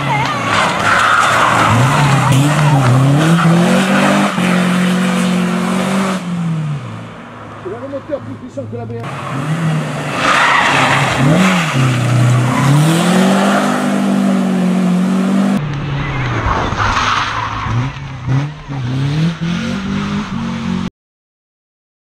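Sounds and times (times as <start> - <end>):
car engine revving and accelerating: 0.0 - 20.9.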